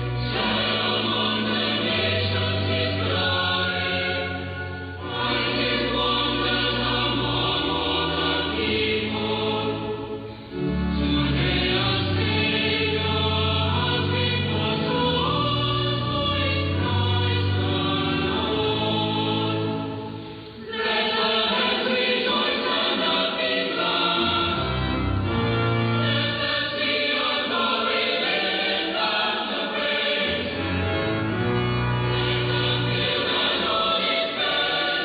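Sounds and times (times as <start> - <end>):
choir singing over radio: 0.3 - 10.1, 11.0 - 20.0, 20.6 - 24.8, 26.0 - 30.7, 32.2 - 35.0.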